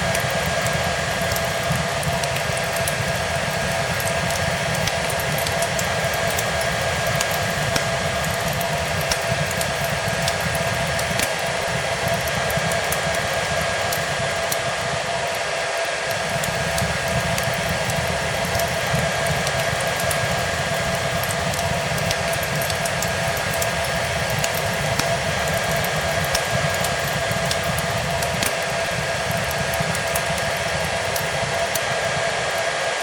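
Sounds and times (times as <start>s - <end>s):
hair dryer running: 0.0s - 33.0s
wood fire crackling: 0.0s - 33.0s.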